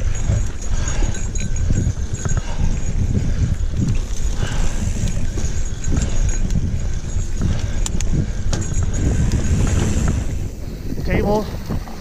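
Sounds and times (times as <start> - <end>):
bike clicks and rattles: 0.0 - 12.0
wind rumble on microphone: 0.0 - 12.0.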